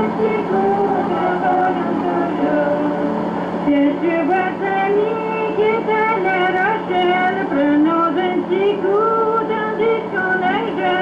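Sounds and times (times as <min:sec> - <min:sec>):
steady low hum: 0:00.0 - 0:11.0
woman singing folk song: 0:00.0 - 0:11.0.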